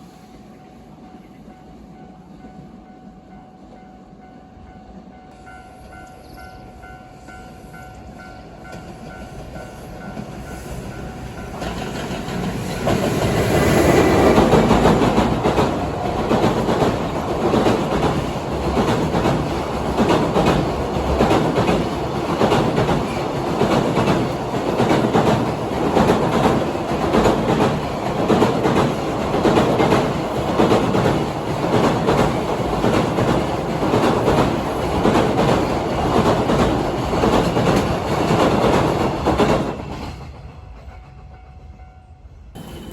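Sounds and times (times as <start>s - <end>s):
train passing: 0.0s - 42.9s.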